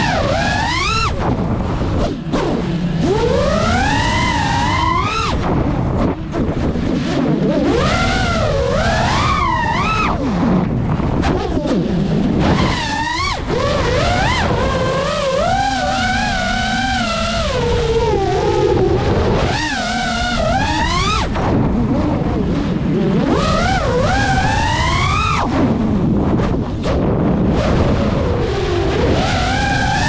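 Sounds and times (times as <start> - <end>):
quadcopter motors whining: 0.0 - 25.9, 27.4 - 30.0
wind rush: 0.0 - 30.0.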